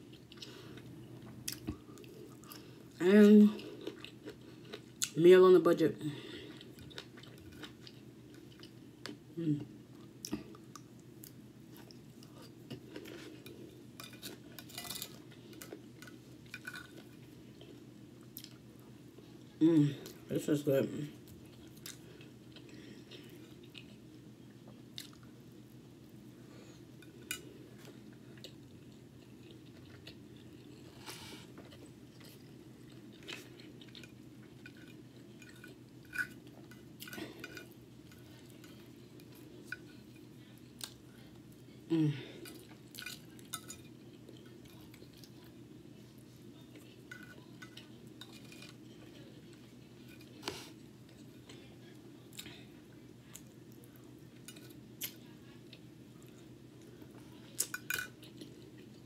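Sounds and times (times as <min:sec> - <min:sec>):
person chewing food: 0:00.0 - 0:05.2, 0:06.3 - 0:20.3, 0:21.2 - 0:25.4, 0:26.5 - 0:41.6, 0:42.3 - 0:52.6.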